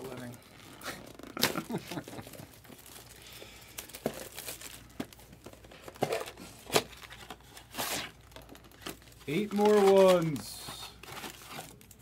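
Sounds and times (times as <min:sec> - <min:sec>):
wrapper and cardboard rustling: 0:00.0 - 0:12.0.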